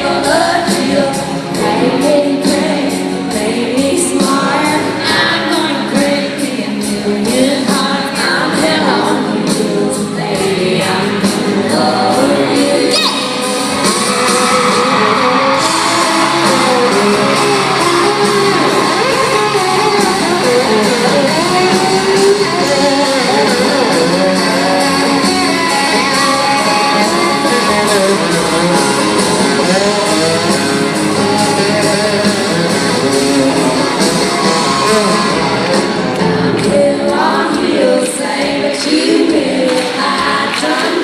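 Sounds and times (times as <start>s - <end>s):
guitar: 0.0s - 41.0s
live country band playing: 0.0s - 41.0s.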